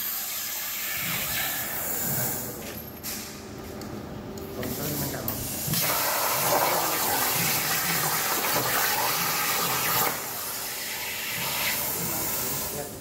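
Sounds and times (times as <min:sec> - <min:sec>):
plasma cutter hissing: 0:00.0 - 0:02.4, 0:05.0 - 0:13.0.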